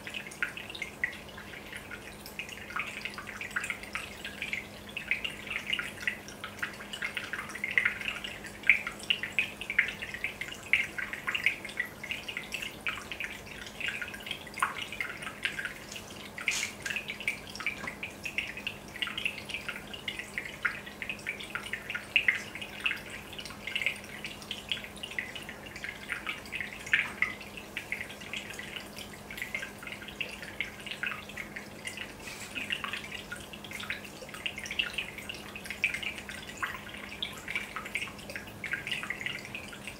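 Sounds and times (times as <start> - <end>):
aquarium bubbles bursting: 0.0 - 39.9.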